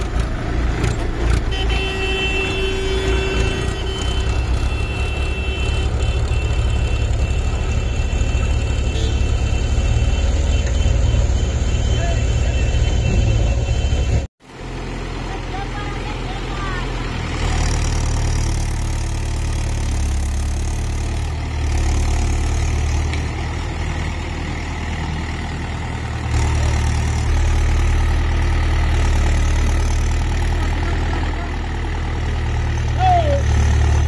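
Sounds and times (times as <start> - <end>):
tractor diesel engine running: 0.0 - 12.6, 13.2 - 34.0.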